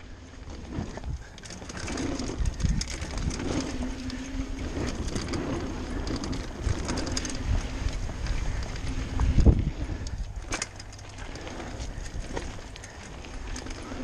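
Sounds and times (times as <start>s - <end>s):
bike rattling and clicking: 0.0s - 14.0s
bike tyres rumbling on boardwalk: 0.0s - 14.0s
low hum: 0.0s - 14.0s
wind buffeting microphone: 0.0s - 14.0s.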